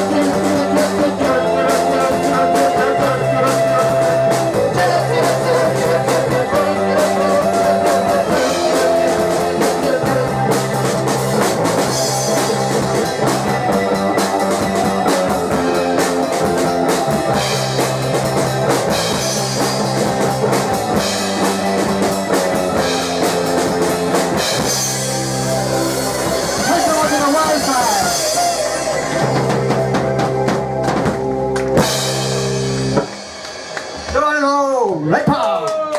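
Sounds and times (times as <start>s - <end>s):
electric guitar: 0.0s - 34.3s
drum kit with cymbal hits: 0.0s - 35.9s.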